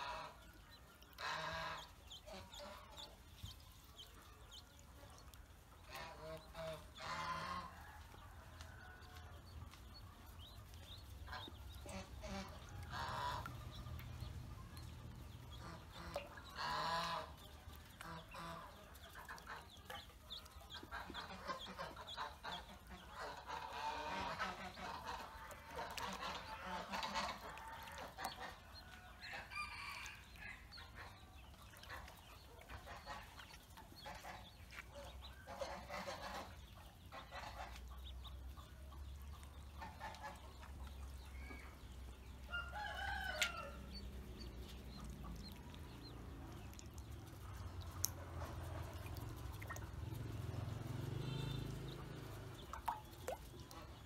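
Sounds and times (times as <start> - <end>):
ducklings peeping: 0.0 - 54.0
small splashes in water: 0.2 - 29.3, 30.1 - 54.0.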